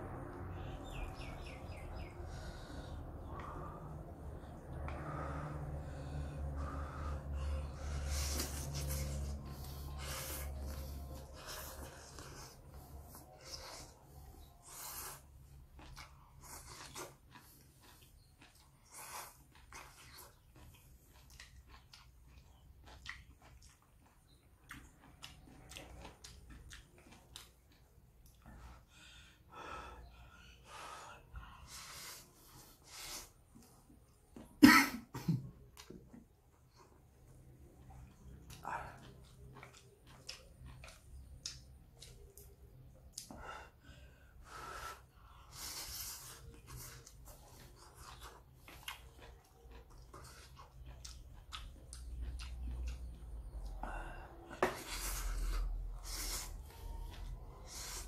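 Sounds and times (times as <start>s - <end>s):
person chewing noodles: 0.1s - 34.6s, 35.5s - 58.0s.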